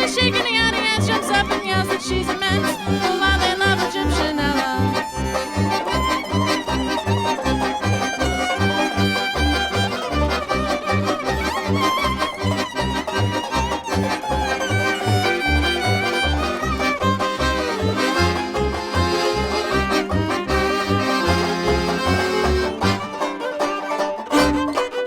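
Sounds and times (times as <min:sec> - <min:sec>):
fiddle melody: 0:00.0 - 0:25.0
pulsing bass beat: 0:02.1 - 0:23.2.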